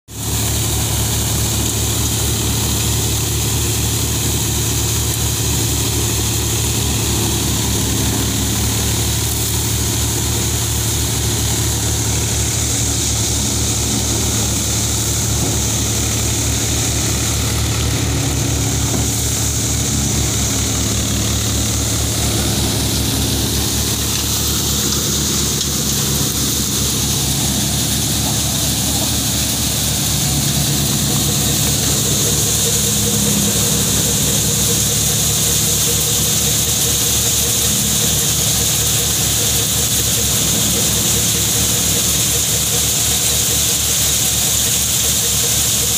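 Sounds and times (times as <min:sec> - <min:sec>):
thresher engine drone: 0:00.0 - 0:45.9
threshing drum rushing hiss: 0:00.1 - 0:45.9.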